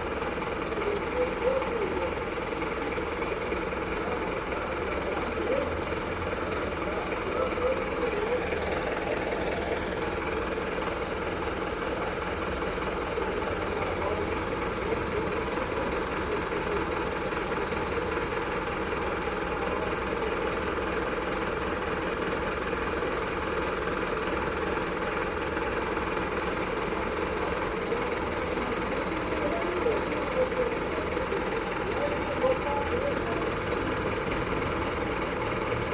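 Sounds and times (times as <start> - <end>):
truck diesel engine idling: 0.0 - 35.9.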